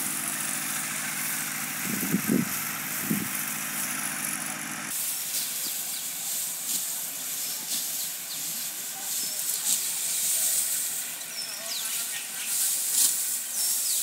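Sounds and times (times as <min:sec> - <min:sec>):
low engine hum: 0:00.0 - 0:14.0
steady outdoor hiss: 0:00.0 - 0:14.0.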